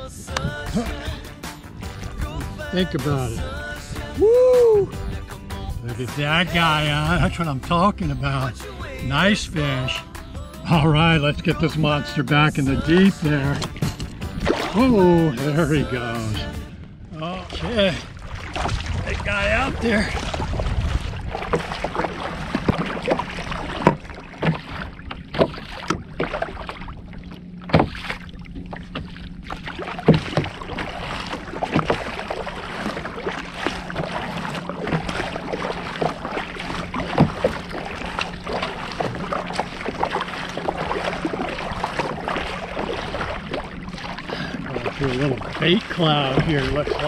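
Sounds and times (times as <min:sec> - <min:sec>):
paddle strokes in water: 0:00.0 - 0:16.5, 0:17.4 - 0:47.0
water washing along hull: 0:00.0 - 0:47.0.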